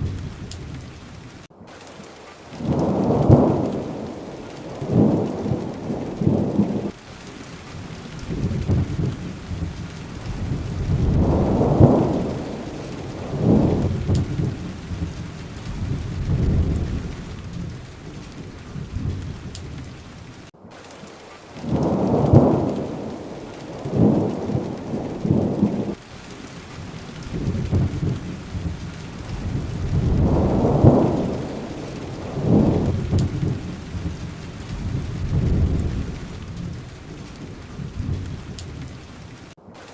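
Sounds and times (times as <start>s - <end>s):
thunder rumbling: 0.0s - 21.0s, 21.6s - 39.9s
steady rain: 0.0s - 39.9s.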